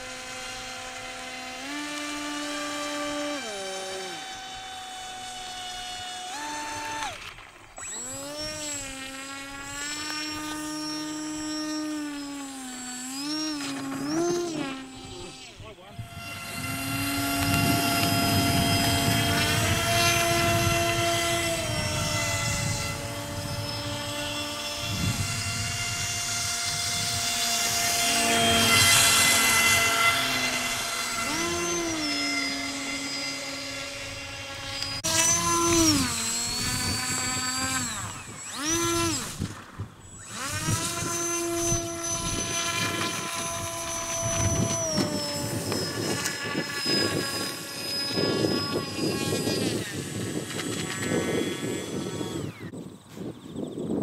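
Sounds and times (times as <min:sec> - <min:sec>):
electric motor and propeller whine: 0:00.0 - 0:54.0.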